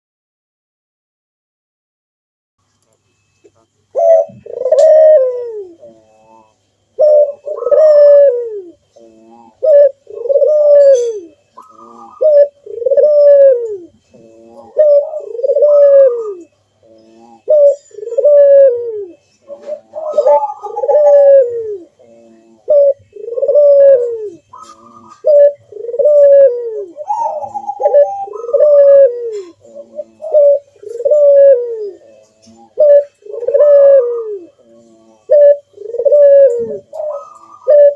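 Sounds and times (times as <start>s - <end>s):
dove cooing: 3.6s - 37.9s.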